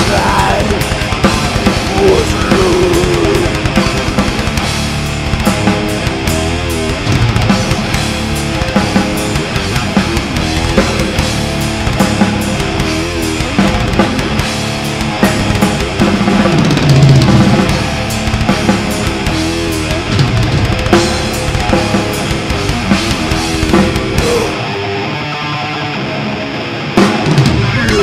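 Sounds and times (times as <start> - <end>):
drum kit with bass and snare: 0.0 - 24.8, 27.0 - 28.0
electric guitars: 0.0 - 28.0.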